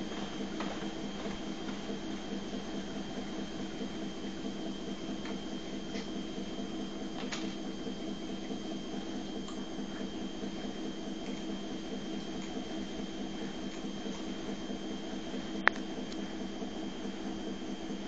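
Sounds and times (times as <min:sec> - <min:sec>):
low hum with high-pitched whine: 0:00.0 - 0:18.0.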